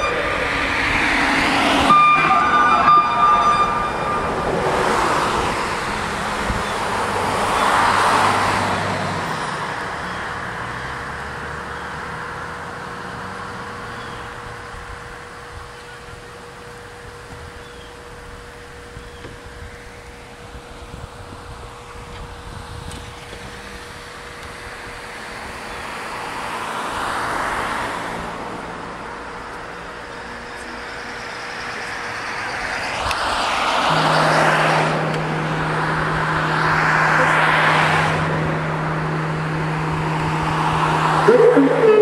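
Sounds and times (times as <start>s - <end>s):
vehicles passing: 0.0s - 42.0s.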